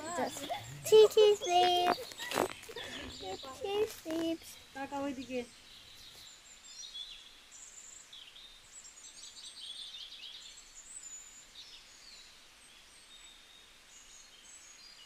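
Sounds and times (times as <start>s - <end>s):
birds chirping and trilling: 0.0s - 12.3s
faint outdoor hiss: 0.0s - 15.0s.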